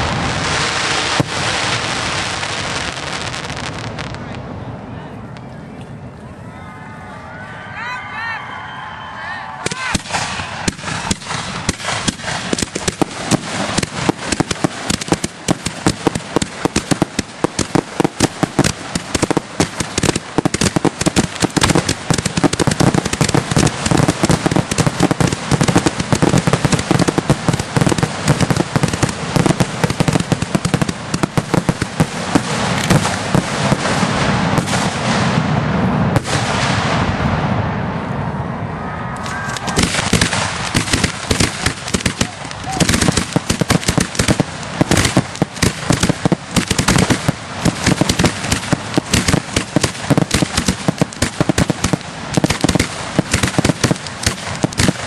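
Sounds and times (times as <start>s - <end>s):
firework bangs and crackles: 0.0s - 5.9s, 9.6s - 38.2s, 39.2s - 55.0s.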